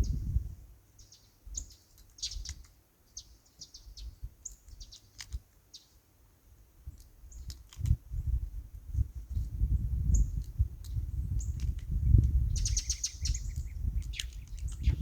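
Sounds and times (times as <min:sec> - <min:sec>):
small birds chirping: 0:00.0 - 0:06.2, 0:06.8 - 0:15.0.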